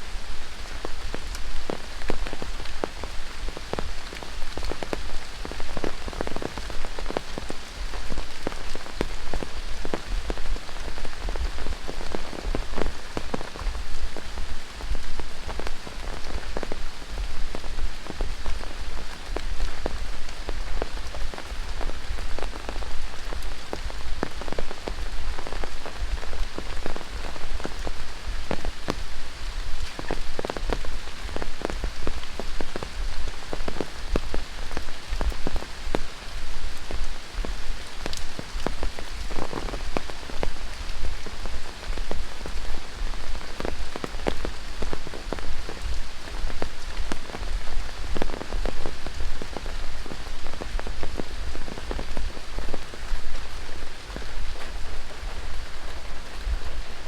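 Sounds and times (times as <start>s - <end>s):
close raindrop hits: 0.0s - 57.0s
rain falling on foliage: 0.0s - 57.0s.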